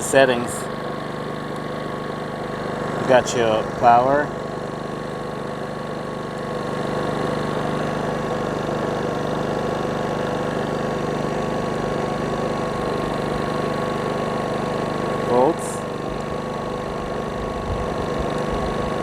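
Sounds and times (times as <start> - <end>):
generator engine humming: 0.0 - 19.0.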